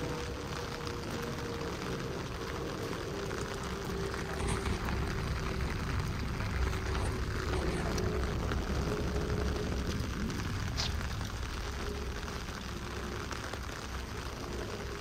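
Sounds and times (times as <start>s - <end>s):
faint steady hum: 0.0s - 15.0s
heavy rain falling: 0.0s - 15.0s.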